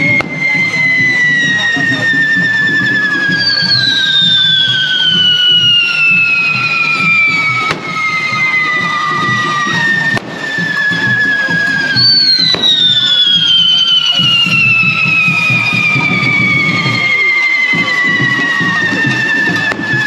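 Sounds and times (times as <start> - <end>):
falling firework whistles: 0.0 - 20.0
firecrackers cracking: 0.0 - 20.0
firework fountains spraying sparks: 0.0 - 20.0.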